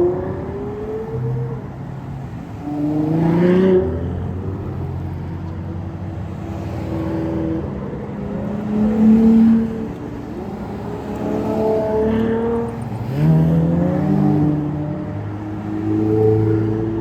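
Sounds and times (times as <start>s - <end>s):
sports car engines driving past: 0.0s - 17.0s.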